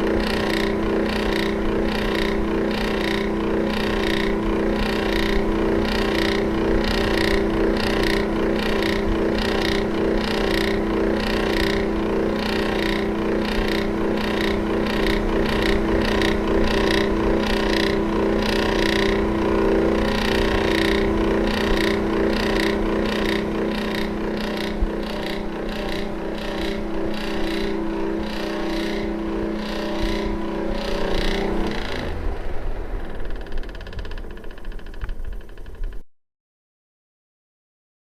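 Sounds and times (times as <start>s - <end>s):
electric fan humming and whooshing: 0.0s - 36.0s.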